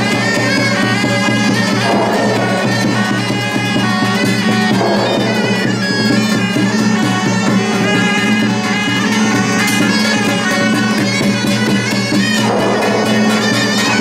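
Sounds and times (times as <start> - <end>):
drum and gong percussion: 0.0 - 14.0
suona shawms playing melody: 0.0 - 14.0.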